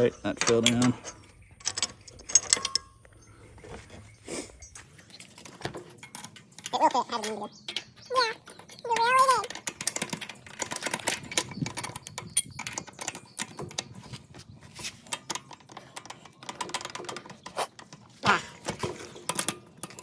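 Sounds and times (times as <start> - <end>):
metal bolt and washer clinks: 0.3 - 3.1, 5.1 - 20.0.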